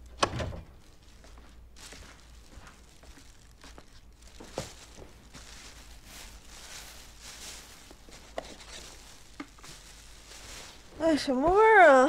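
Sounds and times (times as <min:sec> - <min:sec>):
plastic bag rustling: 0:00.8 - 0:12.0.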